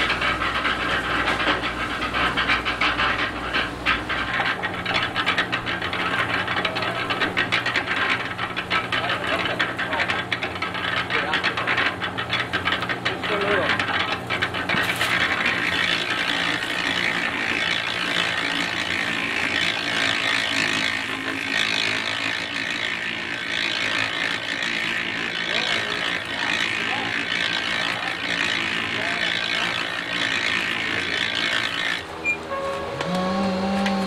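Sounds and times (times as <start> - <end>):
concrete tumbling in drum: 0.0 - 32.0
cement mixer motor hum: 0.0 - 34.0.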